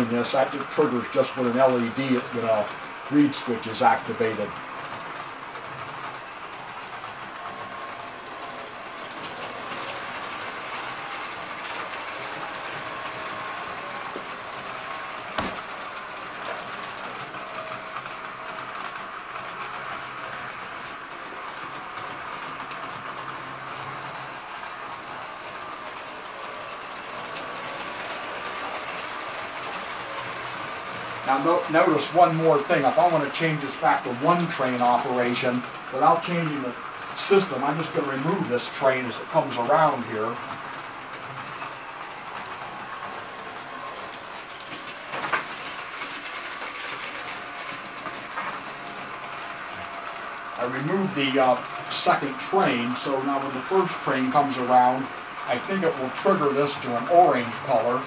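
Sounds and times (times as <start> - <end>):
model train wheels rattling: 0.0 - 58.0
small track clicks: 0.0 - 58.0.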